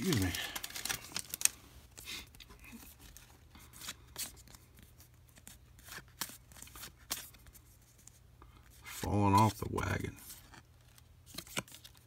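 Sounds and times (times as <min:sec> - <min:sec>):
cards rustling and scraping: 0:00.0 - 0:12.0.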